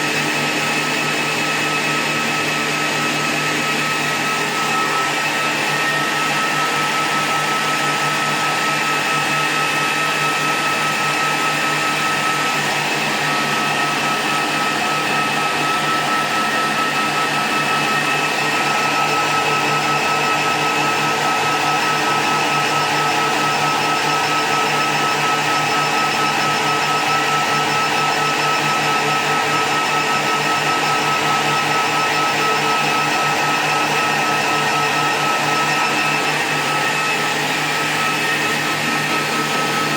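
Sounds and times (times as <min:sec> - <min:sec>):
high-pitched whine: 0:00.0 - 0:39.9.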